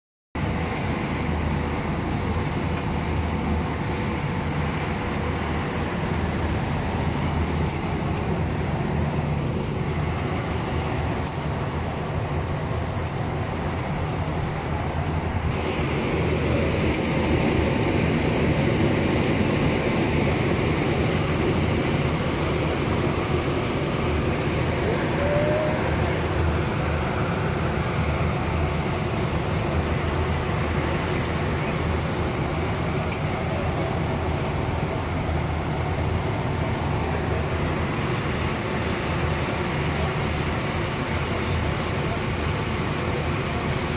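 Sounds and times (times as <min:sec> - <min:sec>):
conveyor drives whirring: 0:00.4 - 0:43.9
blower fans hissing: 0:00.5 - 0:43.9.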